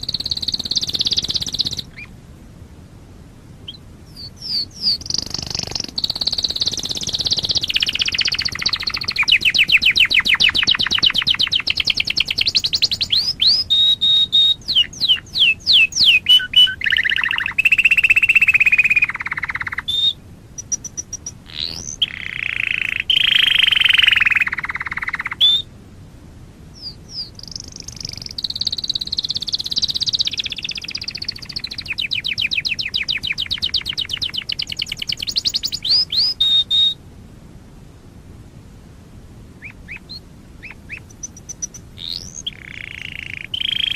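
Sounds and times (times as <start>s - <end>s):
canary singing trills: 0.0s - 2.2s, 3.6s - 25.7s, 26.7s - 37.0s, 39.6s - 43.9s.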